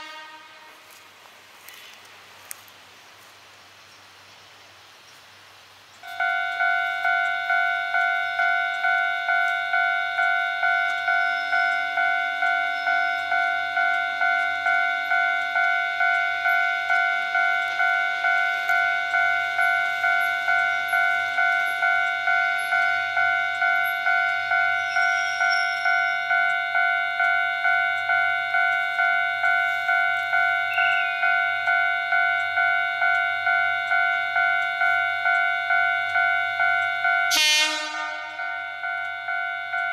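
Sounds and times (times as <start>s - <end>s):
level crossing warning bell: 6.0s - 39.9s.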